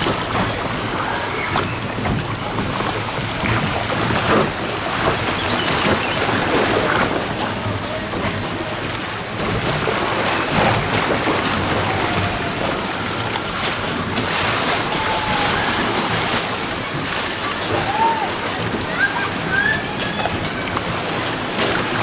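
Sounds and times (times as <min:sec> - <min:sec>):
rushing churning water: 0:00.0 - 0:22.0.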